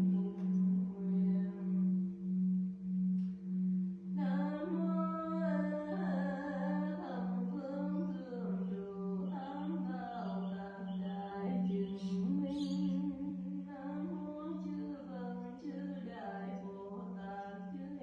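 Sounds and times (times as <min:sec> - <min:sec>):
deep temple bell hum: 0:00.0 - 0:18.0
person chanting: 0:00.0 - 0:18.0.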